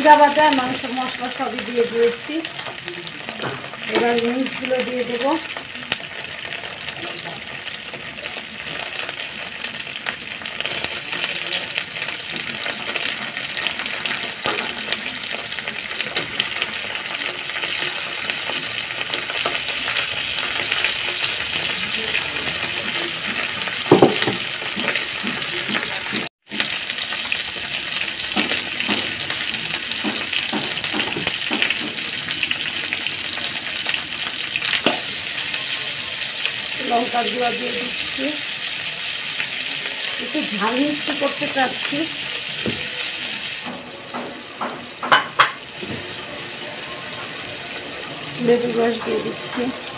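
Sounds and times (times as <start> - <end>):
chicken wings sizzling in oil: 0.0 - 49.9.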